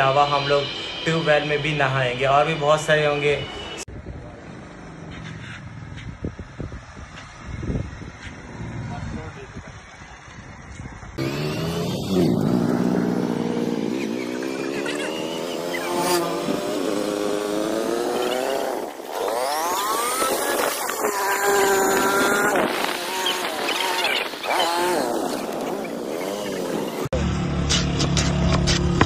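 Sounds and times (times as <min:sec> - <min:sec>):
small motorcycle engine accelerating: 0:05.0 - 0:29.0.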